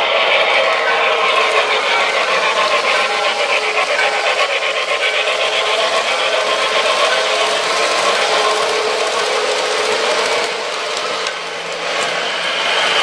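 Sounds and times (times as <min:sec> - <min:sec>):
model train wheels clattering: 0:00.0 - 0:13.0.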